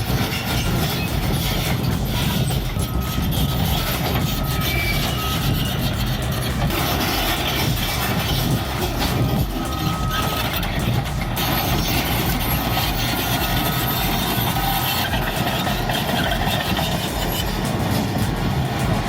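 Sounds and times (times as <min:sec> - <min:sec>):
heavy diesel engine under load: 0:00.0 - 0:19.0
machinery grinding: 0:00.0 - 0:19.0.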